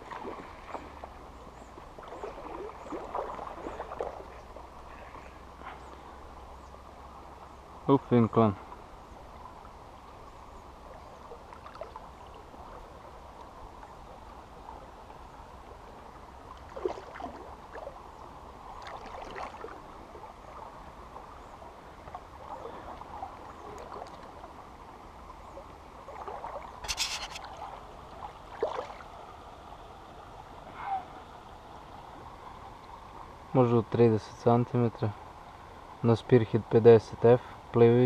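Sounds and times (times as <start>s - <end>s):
river flowing: 0.0s - 38.0s.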